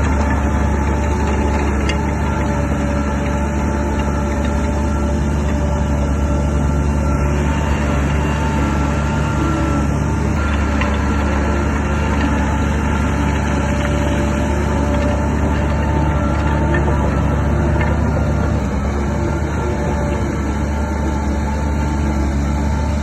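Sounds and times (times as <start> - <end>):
bulldozer diesel engine humming: 0.0 - 23.0.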